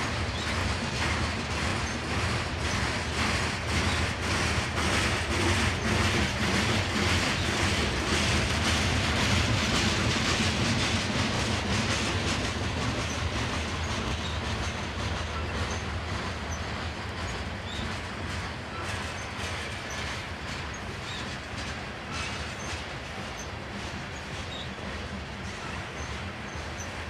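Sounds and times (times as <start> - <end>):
train wheels rumbling on track: 0.0 - 27.0
wheels clicking over rail joints: 0.0 - 27.0.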